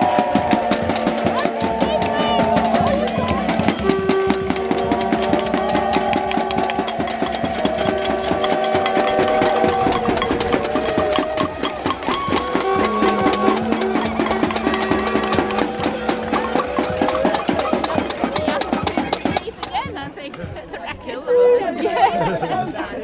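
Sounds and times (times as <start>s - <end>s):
fast percussive beat: 0.0s - 20.6s
folk melody of held notes: 0.0s - 21.8s.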